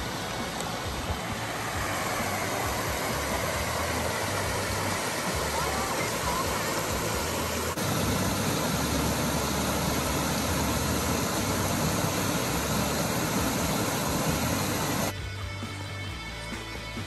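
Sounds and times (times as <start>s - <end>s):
small waterfall rushing: 0.0s - 15.1s.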